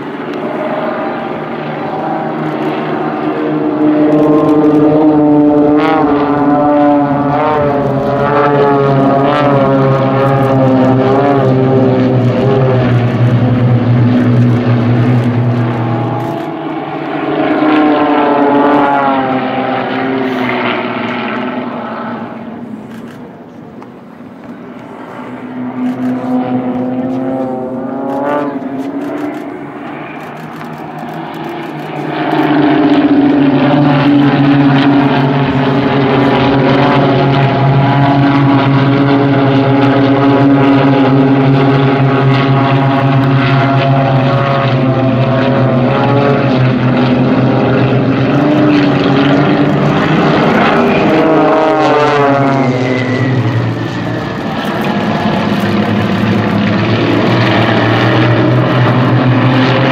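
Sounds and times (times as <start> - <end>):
propeller plane engines droning: 0.0 - 59.9.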